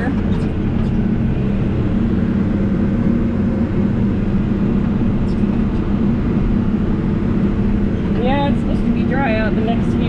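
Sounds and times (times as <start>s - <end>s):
backhoe diesel engine running: 0.0s - 10.0s.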